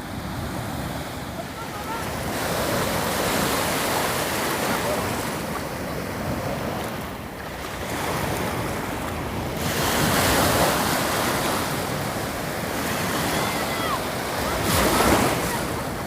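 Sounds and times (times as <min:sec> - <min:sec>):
sea waves washing ashore: 0:00.0 - 0:16.0.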